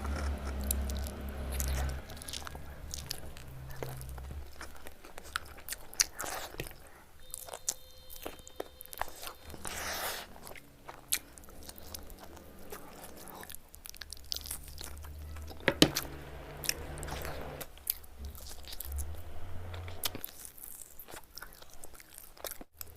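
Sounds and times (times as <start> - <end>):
person chewing crunchy food: 0.0 - 22.9.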